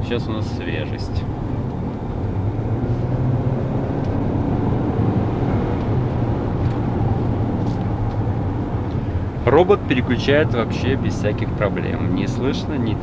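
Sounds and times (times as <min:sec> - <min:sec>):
car engine drone: 0:00.0 - 0:13.0
tyre and road noise: 0:00.0 - 0:13.0.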